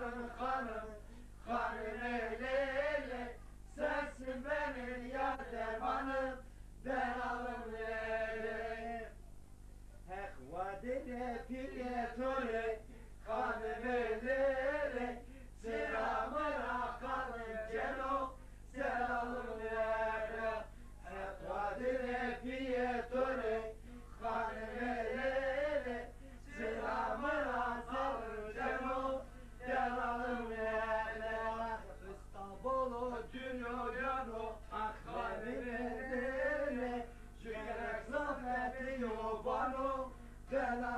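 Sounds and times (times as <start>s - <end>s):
men singing without instruments: 0.0s - 9.2s, 10.1s - 40.9s.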